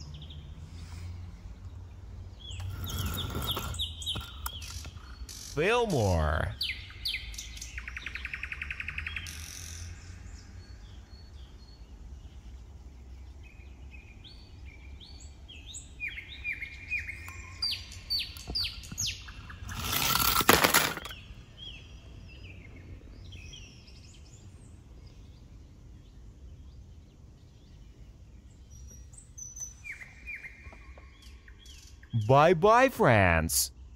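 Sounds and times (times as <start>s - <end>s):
small birds chirping: 0.0s - 20.1s, 21.0s - 32.3s.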